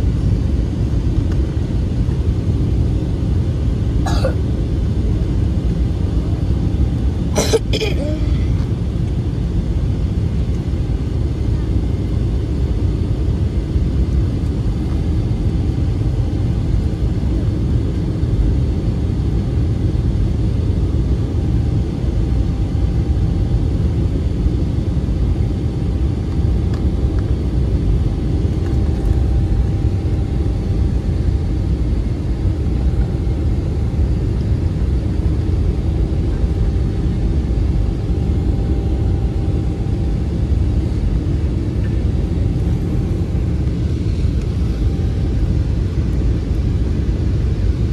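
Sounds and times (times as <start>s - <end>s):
airliner cabin rumble: 0.0s - 47.9s
faint steady whine: 0.0s - 47.9s.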